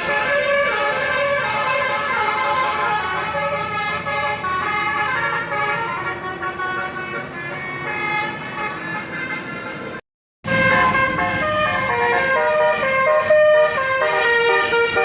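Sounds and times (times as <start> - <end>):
horn playing a tune: 0.0 - 15.0.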